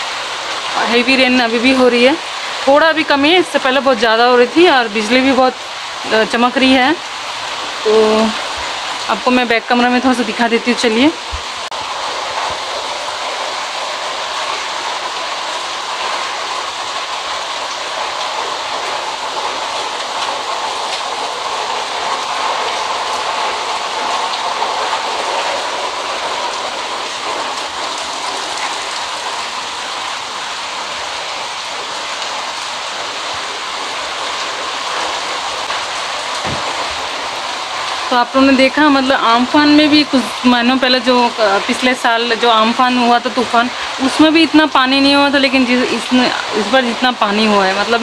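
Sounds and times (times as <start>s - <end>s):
heavy rain on water: 0.0s - 48.0s.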